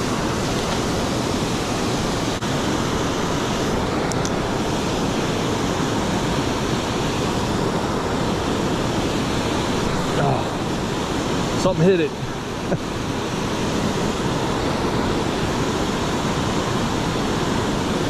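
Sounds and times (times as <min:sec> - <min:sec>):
water roaring over spillway: 0:00.0 - 0:18.0.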